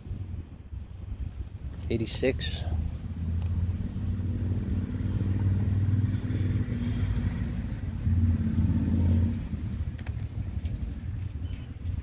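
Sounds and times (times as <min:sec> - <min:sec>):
engine humming: 0:01.5 - 0:12.0.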